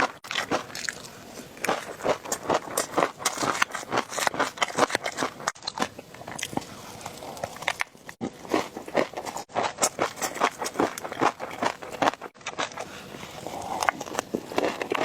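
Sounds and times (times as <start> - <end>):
crunchy bites and chewing: 0.0 - 15.0.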